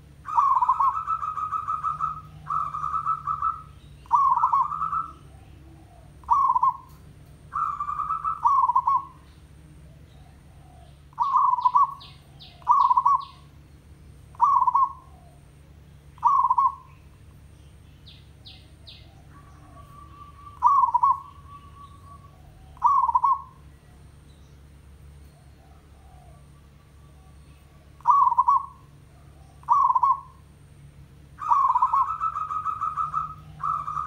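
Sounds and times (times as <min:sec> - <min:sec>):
dove cooing: 0:00.0 - 0:13.6, 0:14.3 - 0:17.5, 0:18.1 - 0:24.2, 0:25.1 - 0:30.7, 0:31.3 - 0:34.0
faint high bird chirps: 0:00.0 - 0:30.5, 0:31.4 - 0:34.0.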